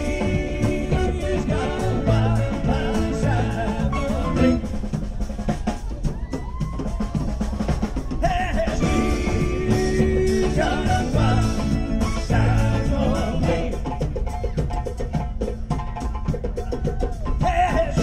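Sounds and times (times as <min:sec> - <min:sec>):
live rock band playing: 0:00.0 - 0:14.7
drum kit: 0:00.0 - 0:18.0.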